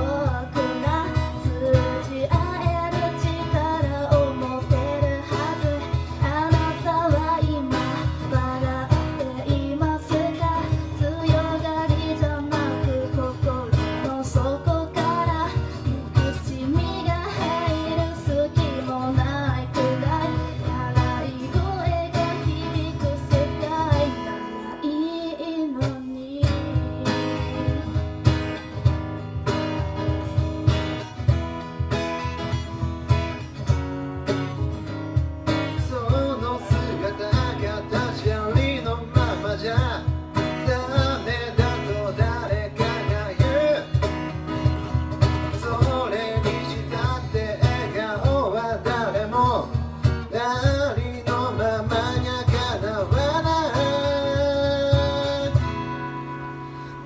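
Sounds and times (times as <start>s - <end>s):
person singing: 0.0s - 28.0s, 35.5s - 44.1s, 45.4s - 57.0s
strummed acoustic guitar: 0.0s - 57.0s.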